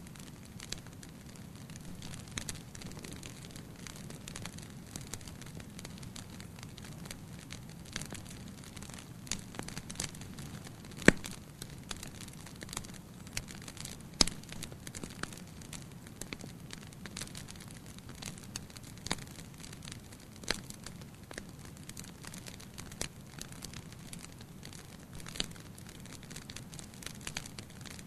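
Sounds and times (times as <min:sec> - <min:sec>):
wood fire crackling: 0:00.0 - 0:28.0
sharp pops of fire: 0:00.1 - 0:28.0.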